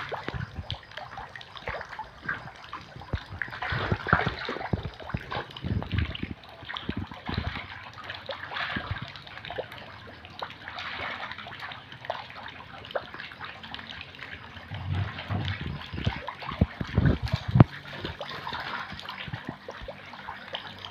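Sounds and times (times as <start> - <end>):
fish splashing in water: 0.0 - 20.9.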